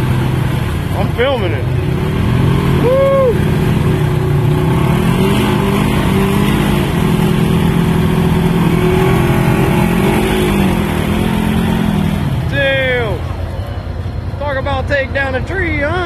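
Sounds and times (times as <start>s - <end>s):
utv engine revving hard: 0.0s - 13.2s
tires spinning in mud: 0.0s - 14.2s.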